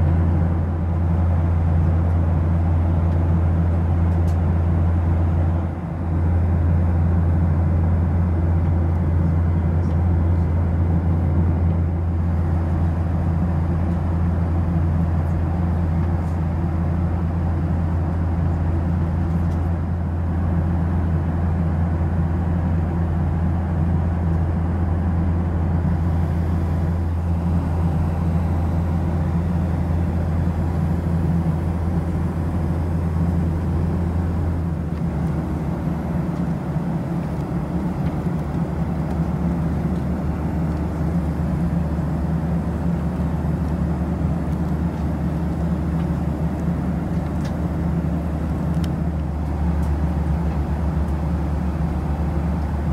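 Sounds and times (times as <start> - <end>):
airliner cabin drone: 0.0 - 52.9.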